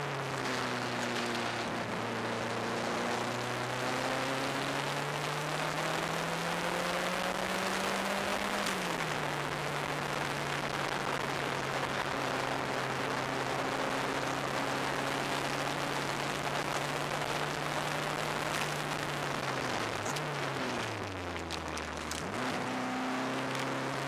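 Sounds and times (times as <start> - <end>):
car engine: 0.0 - 24.0.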